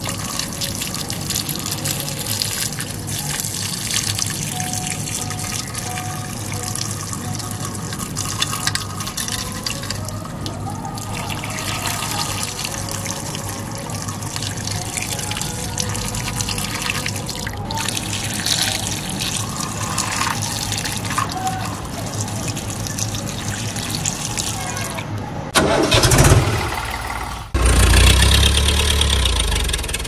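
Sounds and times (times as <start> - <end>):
water jet splashing on toy: 0.0 - 25.0.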